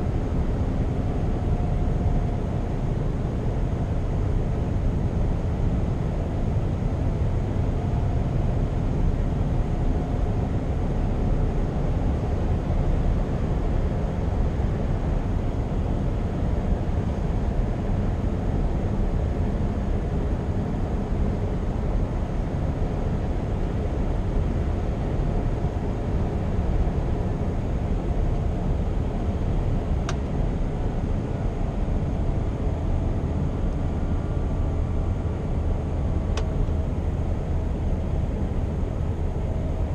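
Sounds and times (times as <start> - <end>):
diesel truck engine drone: 0.0 - 39.9.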